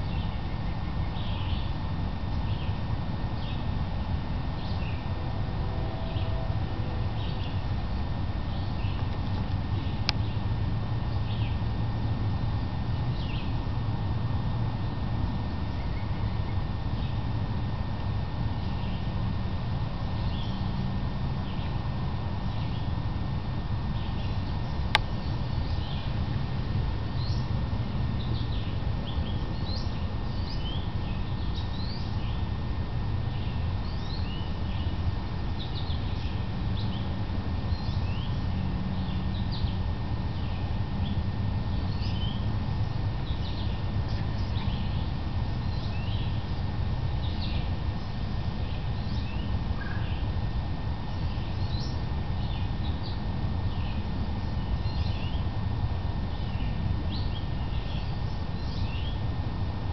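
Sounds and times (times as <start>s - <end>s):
songbirds chirping: 0.0s - 59.9s
steady low rumble: 0.0s - 59.9s.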